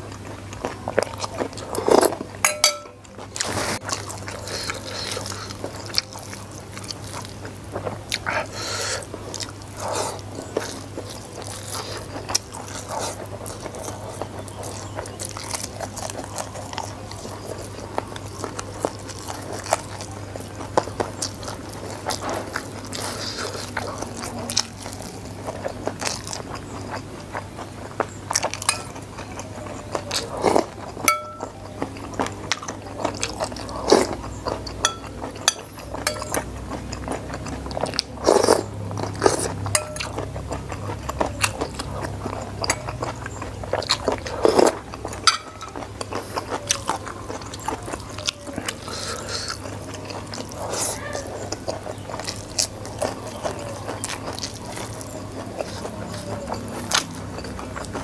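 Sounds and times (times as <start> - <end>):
chewing and crunching: 0.0 - 58.0.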